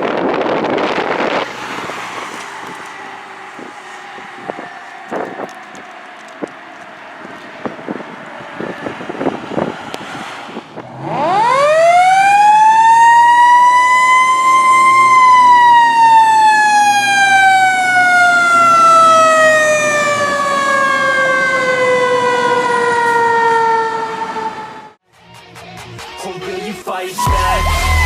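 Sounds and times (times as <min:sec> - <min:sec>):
fire engine siren winding: 0:00.1 - 0:10.2, 0:10.8 - 0:25.0, 0:27.2 - 0:28.0.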